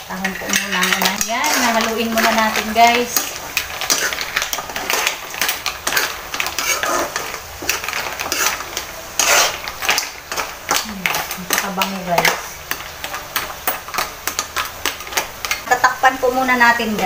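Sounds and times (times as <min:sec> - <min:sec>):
butter sizzling: 0:00.0 - 0:17.0
spoon scraping metal pan: 0:00.1 - 0:15.7.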